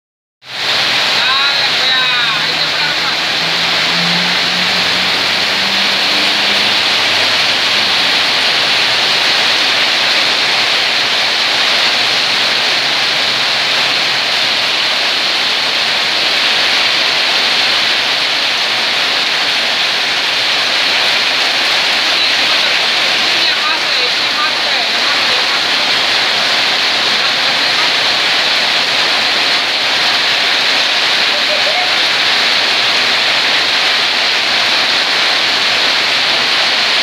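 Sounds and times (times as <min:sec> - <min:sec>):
heavy rain on a flooded road: 0:00.4 - 0:37.0.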